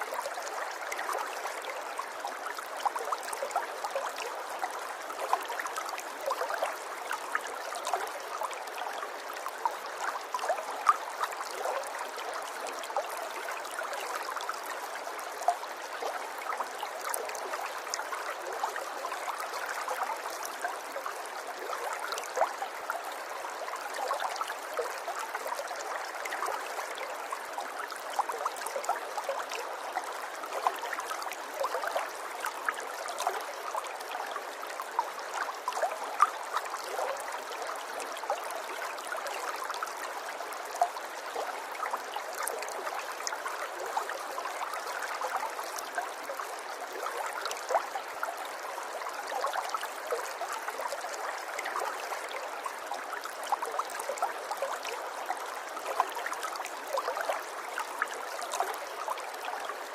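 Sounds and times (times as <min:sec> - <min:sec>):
river water flowing and gurgling: 0:00.0 - 0:59.9.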